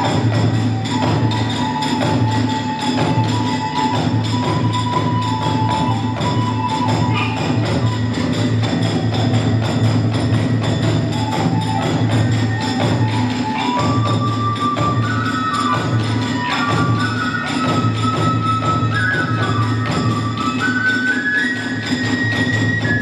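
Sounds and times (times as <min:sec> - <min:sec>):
large drum beat: 0:00.0 - 0:20.9
bamboo flute melody: 0:00.0 - 0:23.0
small hand cymbals jangling: 0:00.0 - 0:23.0.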